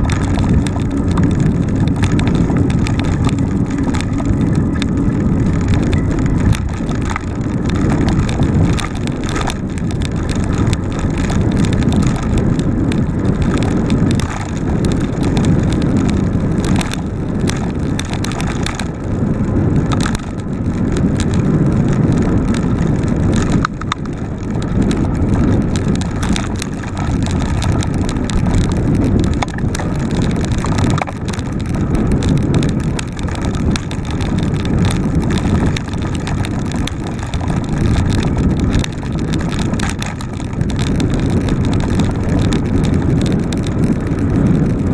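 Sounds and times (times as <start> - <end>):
bike rattles and knocks: 0.0 - 44.9
tyre rumble: 0.0 - 44.9
wind buffeting microphone: 0.0 - 44.9.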